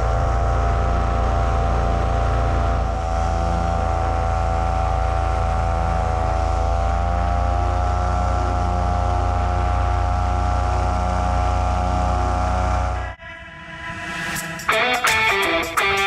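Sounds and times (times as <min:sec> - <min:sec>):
paramotor engine droning: 0:00.0 - 0:16.0.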